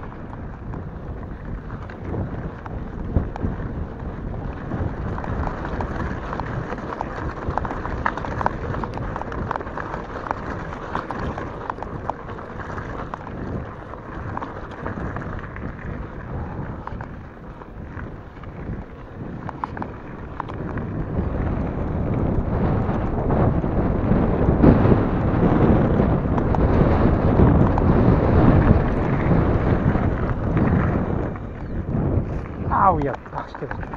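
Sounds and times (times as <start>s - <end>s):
tyres crunching on gravel: 0.0s - 22.4s, 27.2s - 33.9s
bike clicks and rattles: 0.0s - 33.9s
wind rumbling on microphone: 0.0s - 33.9s.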